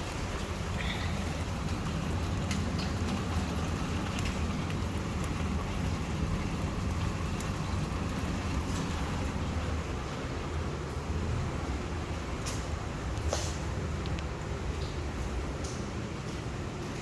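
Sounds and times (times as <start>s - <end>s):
heavy rain through a door: 0.0s - 17.0s
raindrops ticking on surfaces: 0.0s - 17.0s.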